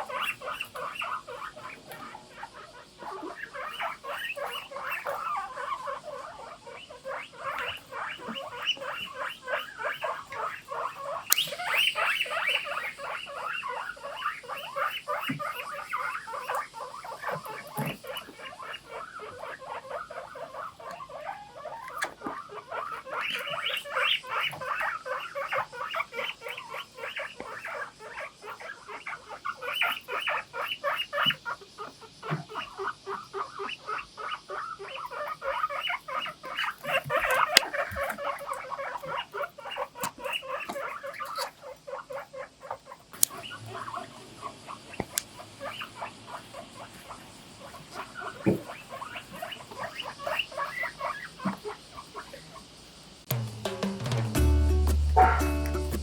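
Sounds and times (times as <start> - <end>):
guinea pigs wheeking: 0.0 - 53.4, 54.2 - 56.0.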